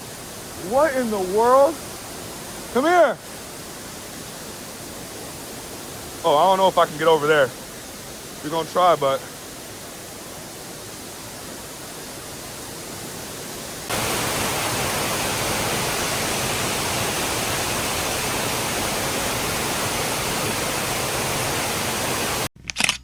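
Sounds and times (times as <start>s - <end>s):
waterfall rushing: 0.0s - 22.5s.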